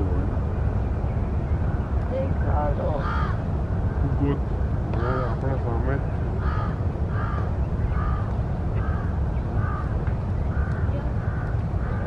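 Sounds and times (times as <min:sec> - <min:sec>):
steady low rumble: 0:00.0 - 0:12.0
bird calling: 0:01.1 - 0:12.0.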